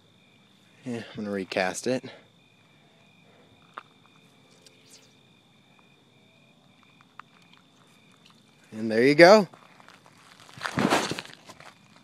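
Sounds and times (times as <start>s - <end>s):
faint crickets chirping: 0.0s - 12.0s.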